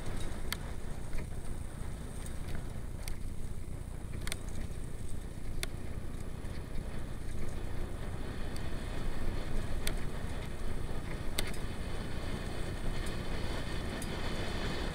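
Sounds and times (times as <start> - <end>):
bike clicks: 0.0 - 14.9.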